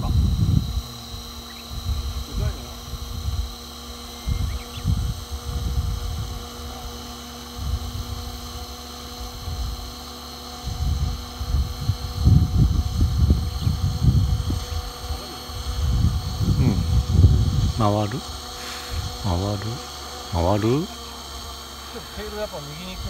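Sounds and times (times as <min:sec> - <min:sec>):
wind buffeting microphone: 0:00.0 - 0:19.3
model helicopter whine: 0:00.0 - 0:23.0.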